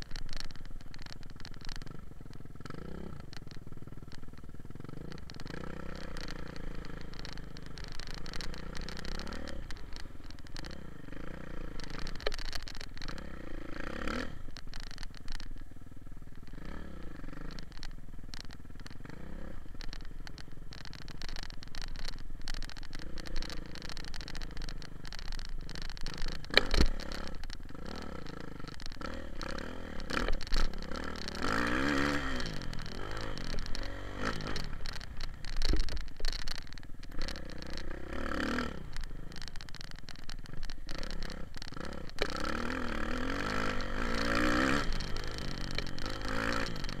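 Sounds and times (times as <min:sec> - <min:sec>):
dirt bike engine revving: 0:04.8 - 0:12.3, 0:13.0 - 0:15.1, 0:16.4 - 0:36.4, 0:37.0 - 0:39.9, 0:40.8 - 0:47.0.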